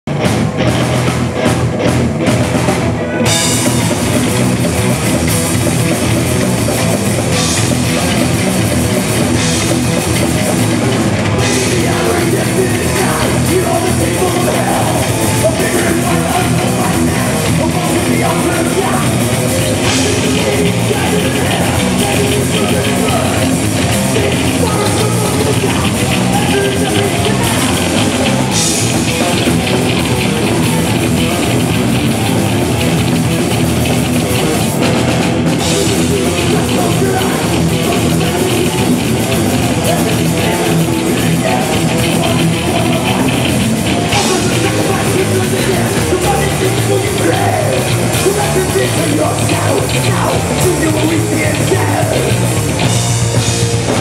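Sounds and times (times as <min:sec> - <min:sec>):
distorted electric guitars: 0:00.0 - 0:54.0
drum kit: 0:00.1 - 0:54.0.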